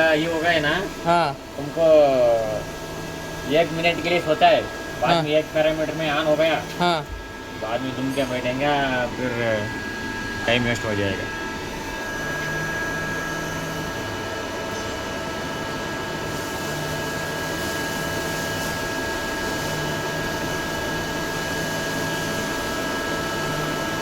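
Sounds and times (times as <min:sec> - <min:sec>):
machine high whine: 0:00.0 - 0:24.0
machine low hum: 0:00.0 - 0:24.0.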